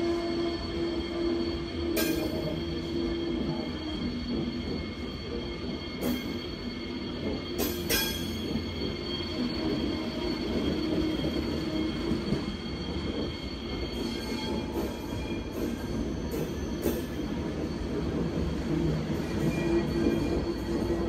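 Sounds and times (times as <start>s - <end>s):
train wheels squealing on rails: 0.0s - 21.0s.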